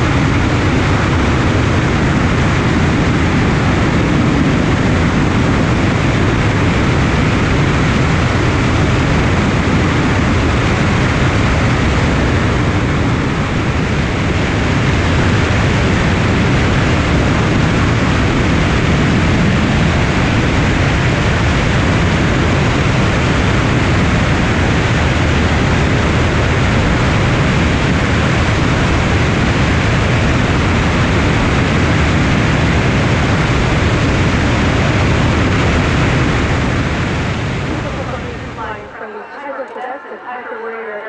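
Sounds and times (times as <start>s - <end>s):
airflow rushing over microphone: 0.0s - 41.0s
propeller engine running: 0.0s - 41.0s.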